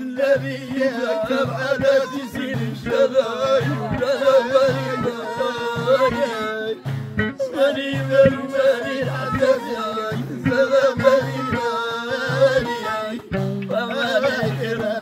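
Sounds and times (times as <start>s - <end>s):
hand drums beating rhythm: 0.0s - 15.0s
man singing: 0.0s - 15.0s
violin: 0.0s - 15.0s.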